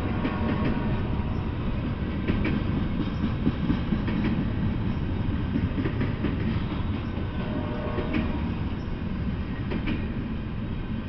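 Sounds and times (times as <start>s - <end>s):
sharp clicks of train wheels: 0.0s - 10.6s
freight train wheels rumbling: 0.0s - 11.0s.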